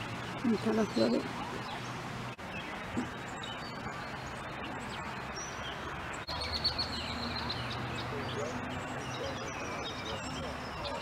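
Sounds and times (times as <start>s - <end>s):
outdoor background noise: 0.0s - 11.0s
songbirds chirping: 0.0s - 11.0s.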